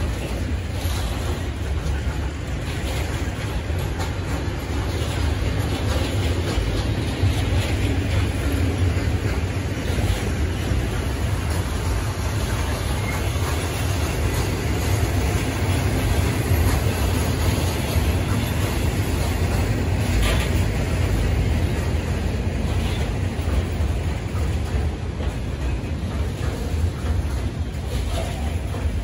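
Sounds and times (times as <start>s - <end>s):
freight train wheels rumbling on rail: 0.0s - 29.0s.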